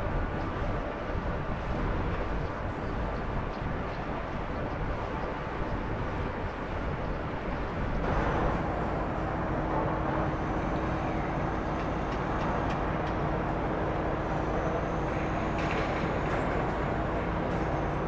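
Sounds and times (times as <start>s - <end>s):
low mechanical machinery noise: 0.0s - 18.0s.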